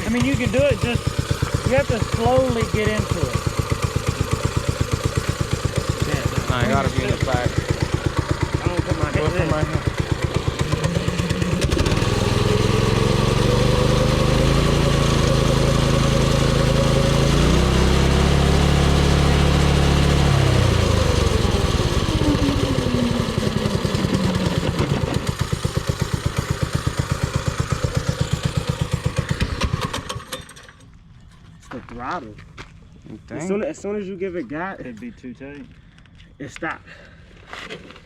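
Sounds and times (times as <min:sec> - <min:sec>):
small gasoline engine running: 0:00.0 - 0:30.9.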